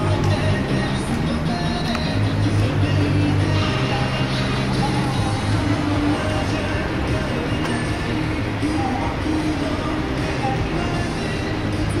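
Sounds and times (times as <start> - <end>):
low rumble of traffic: 0.0 - 12.0
music playing: 0.0 - 12.0.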